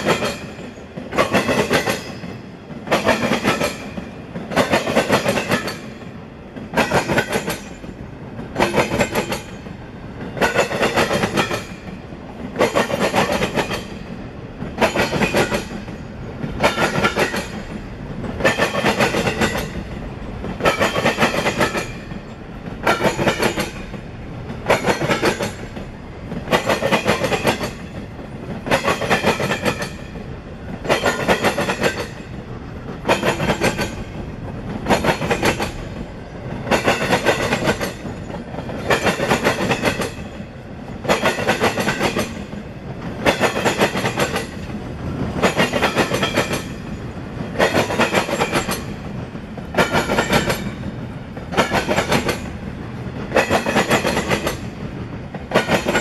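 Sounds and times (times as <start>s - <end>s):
low train rumble: 0.0s - 56.0s
train wheels clattering over track: 0.0s - 56.0s.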